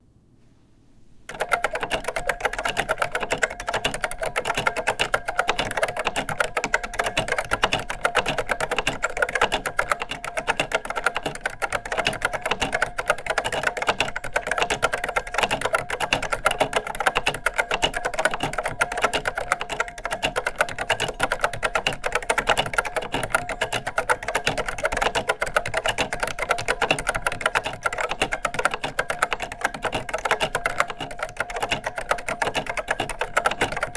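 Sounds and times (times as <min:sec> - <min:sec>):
mechanical keyboard typing: 0:01.3 - 0:33.9.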